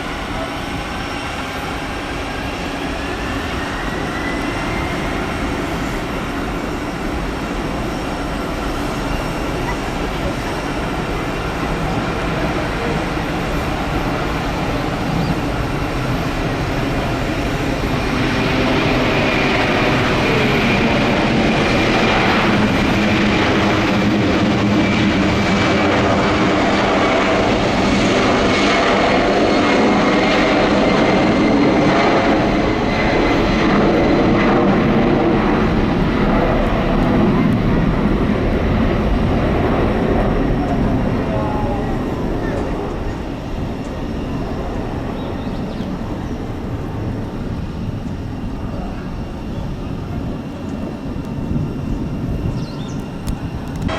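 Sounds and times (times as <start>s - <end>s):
faint high engine whine: 0.0s - 53.9s
jet engines roaring: 0.0s - 53.9s.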